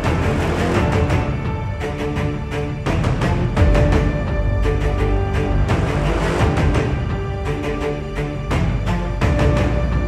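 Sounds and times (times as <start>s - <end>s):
background music with percussion: 0.0s - 10.0s.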